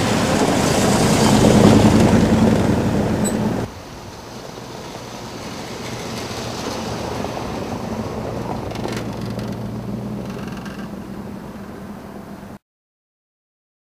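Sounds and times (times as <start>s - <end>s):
tyres rumbling on cobbles: 0.0s - 11.8s
car engine humming: 0.0s - 12.6s.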